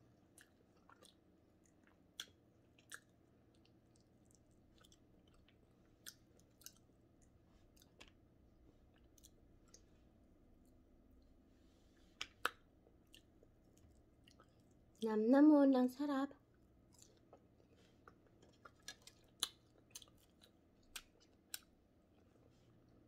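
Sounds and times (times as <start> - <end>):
chewing crispy fried fish: 0.1 - 11.3, 12.0 - 15.1, 16.4 - 23.0.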